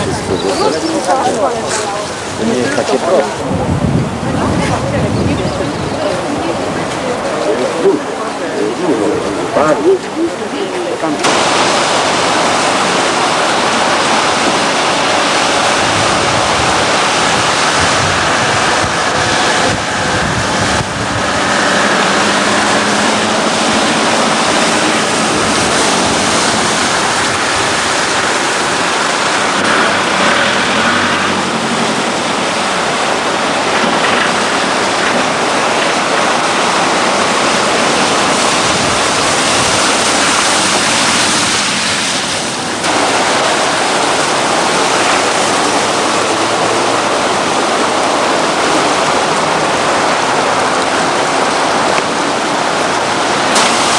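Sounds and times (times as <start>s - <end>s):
floodwater rushing: 0.0s - 53.9s.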